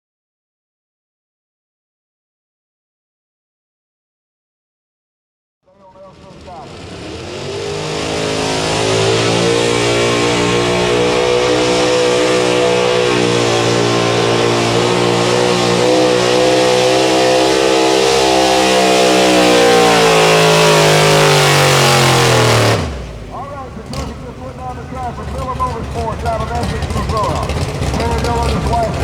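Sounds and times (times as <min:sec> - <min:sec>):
truck engine at high revs: 0:05.8 - 0:29.0.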